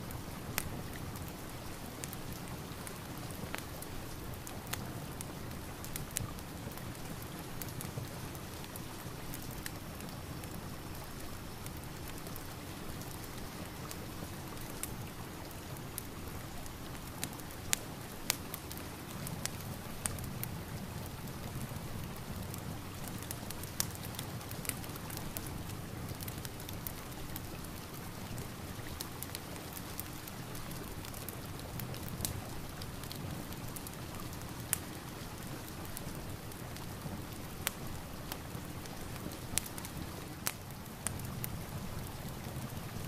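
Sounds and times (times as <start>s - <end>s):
steady rain: 0.0s - 43.0s
wood fire popping and crackling: 0.0s - 43.0s.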